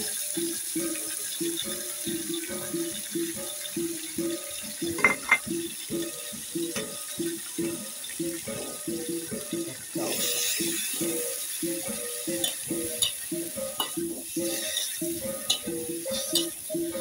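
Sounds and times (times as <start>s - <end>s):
pork sizzling in a wok: 0.0s - 17.0s
background music: 0.1s - 17.0s.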